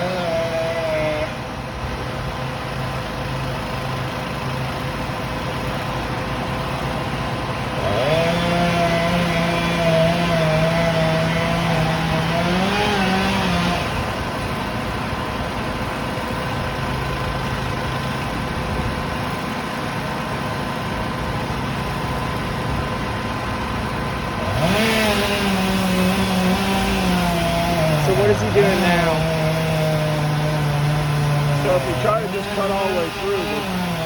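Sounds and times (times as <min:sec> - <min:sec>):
chainsaw revving: 0:00.0 - 0:34.0
steady engine hum: 0:00.0 - 0:34.0.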